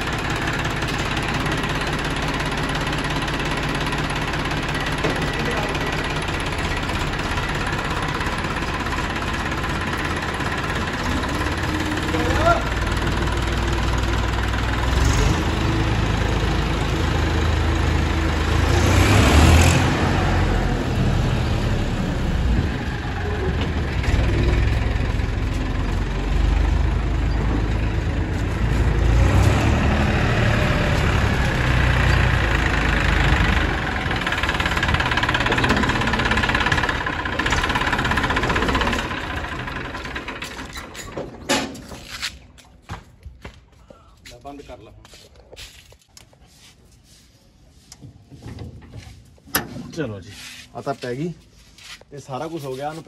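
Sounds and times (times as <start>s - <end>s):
tractor diesel engine running: 0.0s - 42.5s.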